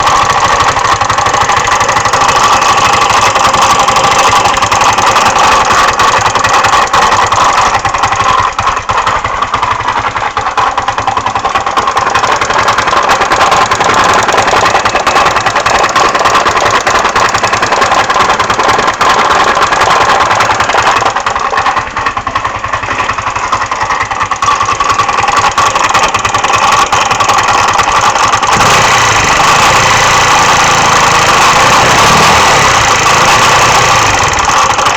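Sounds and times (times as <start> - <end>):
engine knocking clatter: 0.0 - 34.9
scooter engine running: 0.0 - 34.9.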